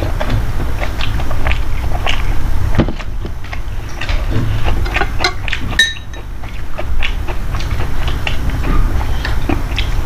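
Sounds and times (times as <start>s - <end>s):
person chewing soft food: 0.0s - 10.0s.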